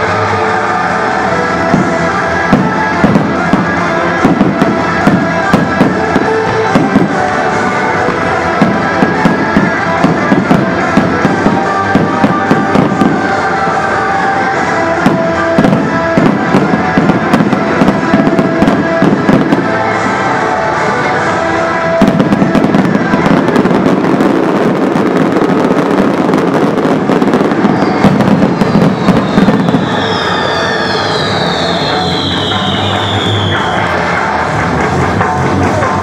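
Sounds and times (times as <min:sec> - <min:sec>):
whistling fireworks: 0:00.0 - 0:34.5
fireworks bursting and crackling: 0:00.0 - 0:36.0
music with held notes: 0:00.0 - 0:36.0.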